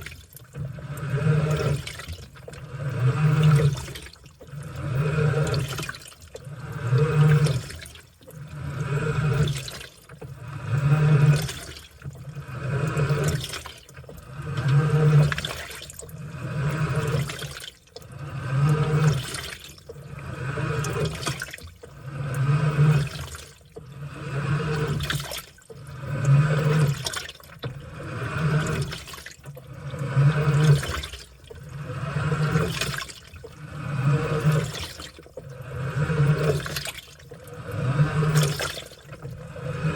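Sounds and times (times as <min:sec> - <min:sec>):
washing machine sloshing laundry: 0:00.0 - 0:39.9.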